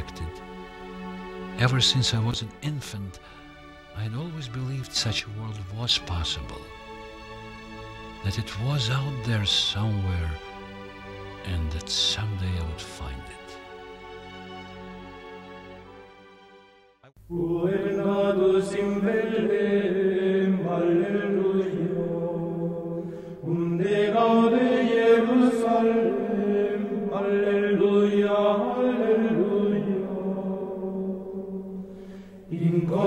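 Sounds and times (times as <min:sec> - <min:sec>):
choir chanting long notes: 0:00.0 - 0:16.7, 0:17.3 - 0:33.0.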